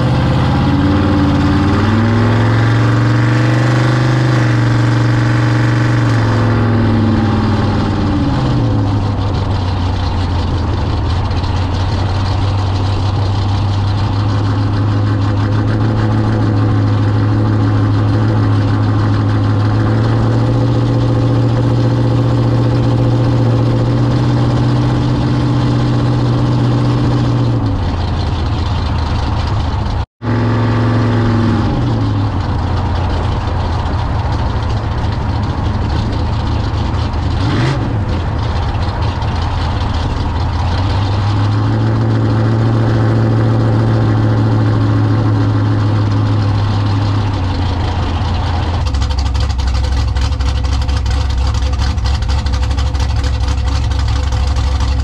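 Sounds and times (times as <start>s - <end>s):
vw engine exhaust rattling: 0.0s - 55.0s.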